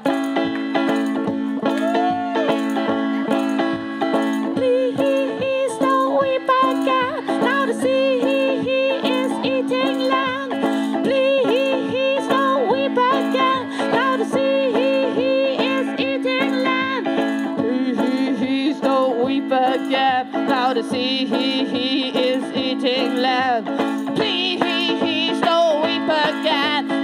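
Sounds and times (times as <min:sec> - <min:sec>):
banjo strumming: 0:00.0 - 0:27.0.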